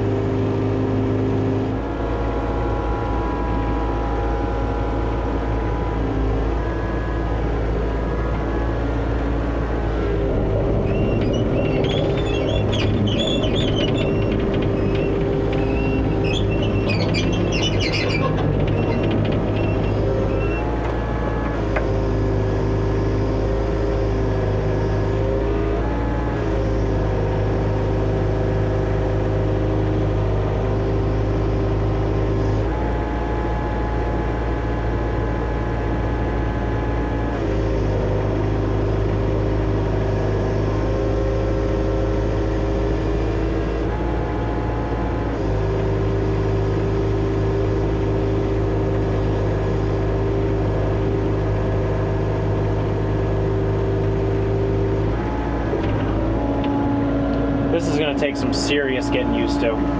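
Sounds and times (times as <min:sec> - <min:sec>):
excavator diesel engine: 0:03.2 - 0:59.9.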